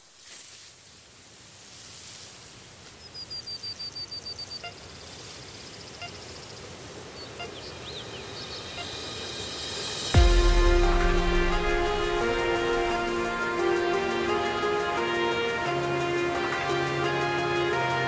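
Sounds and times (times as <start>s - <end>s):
outdoor noise hiss: 0.0s - 18.0s.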